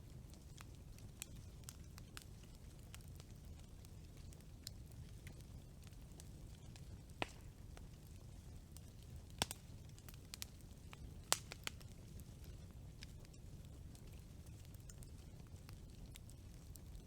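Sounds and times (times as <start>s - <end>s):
campfire burning with low rumble: 0.0s - 17.0s
fire crackling and popping: 0.0s - 17.0s.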